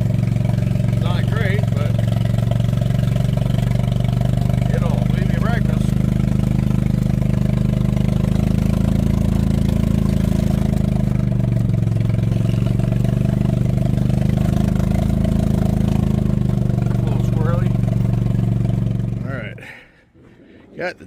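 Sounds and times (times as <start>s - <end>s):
engine running: 0.0s - 20.5s.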